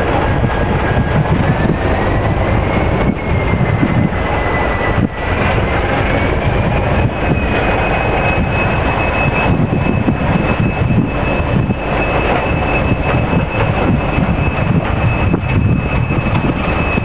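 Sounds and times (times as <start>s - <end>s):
freight train wheels rumbling: 0.0s - 17.0s
thin high squeal: 0.2s - 17.0s.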